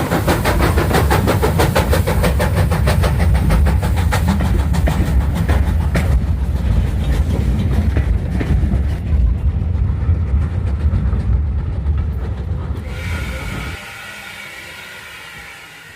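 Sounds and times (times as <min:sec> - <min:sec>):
steam locomotive rumble: 0:00.0 - 0:15.9.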